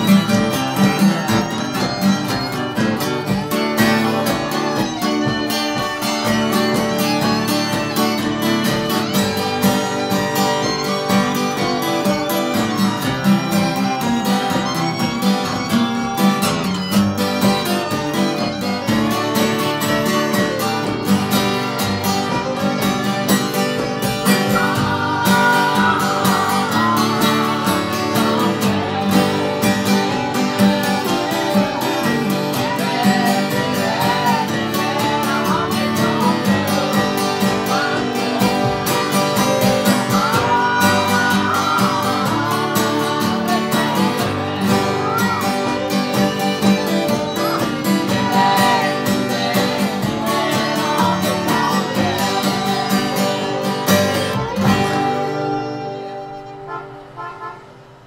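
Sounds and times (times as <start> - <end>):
recorded song with singing: 0.0 - 14.7, 17.8 - 55.8
acoustic guitar strumming chords: 0.0 - 58.0.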